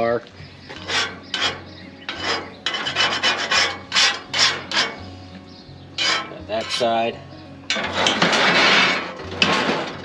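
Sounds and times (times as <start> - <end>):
putty knife scraping cast iron pan: 0.6 - 5.2, 5.9 - 10.0.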